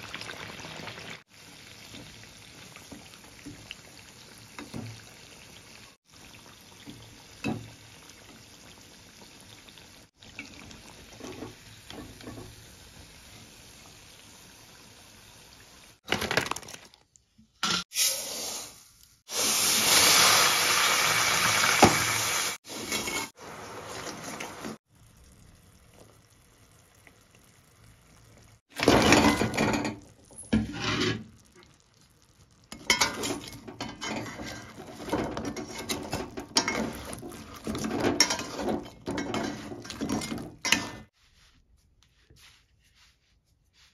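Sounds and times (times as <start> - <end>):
hot oil sizzling: 0.0 - 16.0, 17.9 - 41.2.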